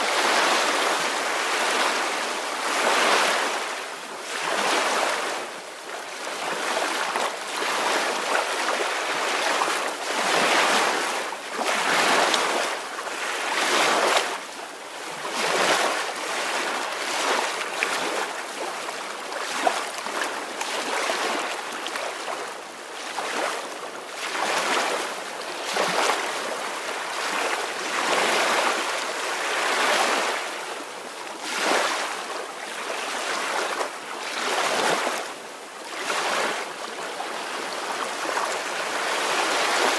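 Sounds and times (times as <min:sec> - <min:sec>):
small waves washing onto shore: 0:00.0 - 0:39.9.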